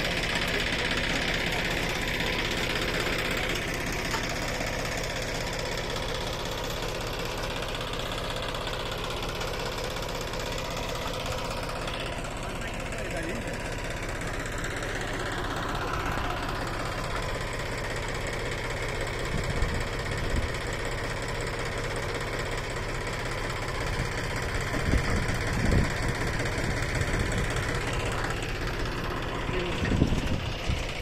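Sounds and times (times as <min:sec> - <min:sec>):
planter machine engine running: 0:00.0 - 0:31.0.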